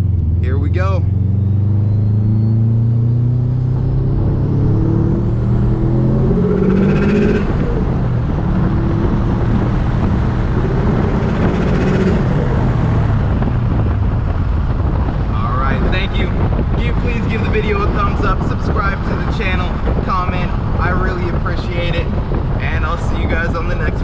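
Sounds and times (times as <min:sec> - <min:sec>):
turbocharged car engine accelerating: 0:00.0 - 0:24.0.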